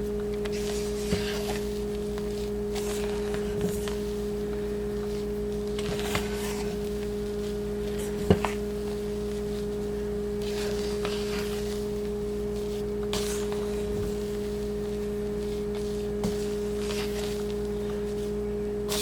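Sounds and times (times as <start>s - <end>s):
steady two-pitch hum: 0.0s - 19.0s
spatula scraping batter in bowl: 0.5s - 4.1s, 5.2s - 9.8s, 10.4s - 19.0s.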